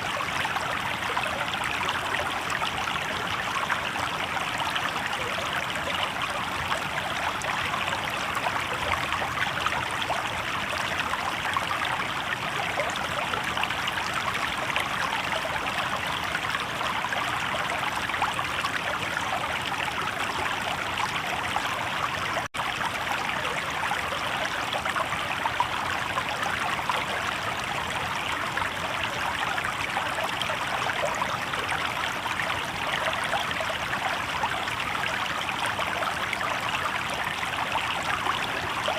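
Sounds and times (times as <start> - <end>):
river water babbling over rocks: 0.0 - 38.9.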